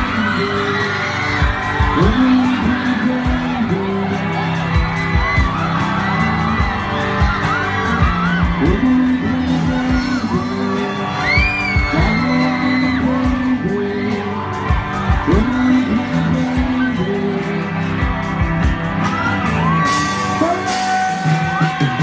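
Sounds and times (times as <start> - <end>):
person singing: 0.0 - 18.4, 19.0 - 22.0
live pop-rock band: 0.0 - 22.0.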